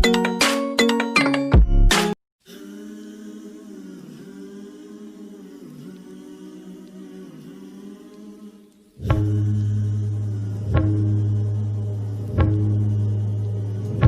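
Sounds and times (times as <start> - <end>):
choir-like singing: 2.4 - 14.0.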